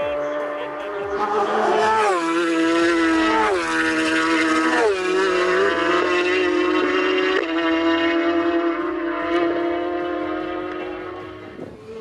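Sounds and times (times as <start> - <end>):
racing motorcycle engines revving: 0.0 - 12.0.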